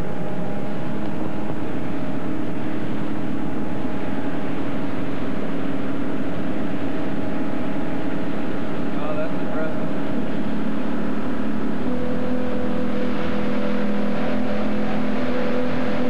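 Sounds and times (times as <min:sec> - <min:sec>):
vehicle engine drone from inside: 0:00.0 - 0:16.0.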